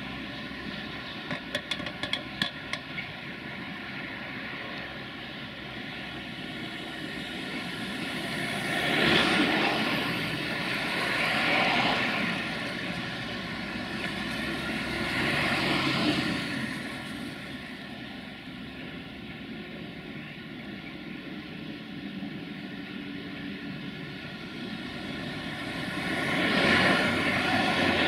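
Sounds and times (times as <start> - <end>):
diesel locomotive engine running: 0.0 - 28.0.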